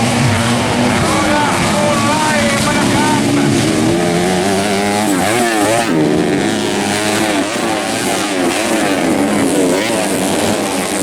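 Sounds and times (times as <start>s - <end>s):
dirt bike engines racing: 0.0s - 11.0s.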